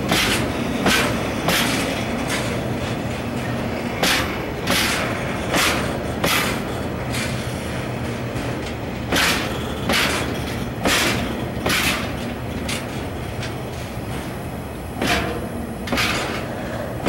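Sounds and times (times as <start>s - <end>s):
wheels clacking over rail joint: 0.0s - 14.4s, 15.0s - 17.0s
train wheels rumbling: 0.0s - 17.0s.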